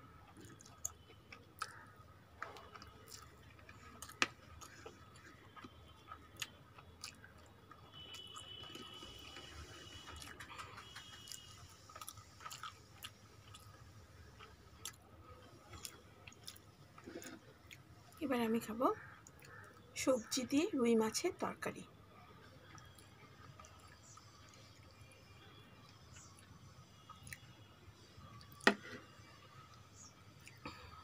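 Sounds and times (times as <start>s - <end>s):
soft chewing and mouth sounds: 0.1s - 18.2s, 19.0s - 19.9s, 22.2s - 31.0s.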